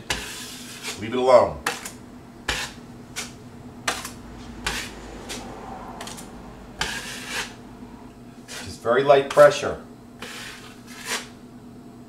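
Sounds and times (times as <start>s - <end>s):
drywall knife scraping wall: 0.0s - 7.6s, 8.4s - 9.5s, 10.2s - 11.4s.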